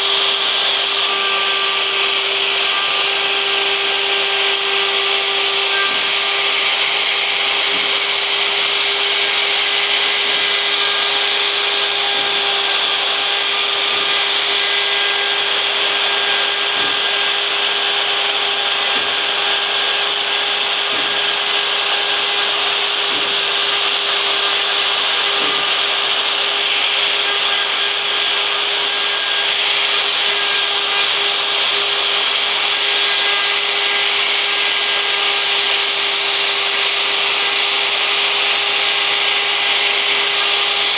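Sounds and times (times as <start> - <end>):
bit cutting wood: 0.0 - 40.9
router spindle whining: 0.0 - 40.9.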